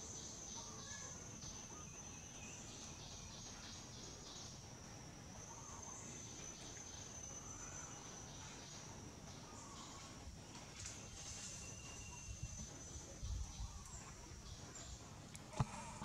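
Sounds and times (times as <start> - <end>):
insects whining and trilling: 0.0 - 16.0.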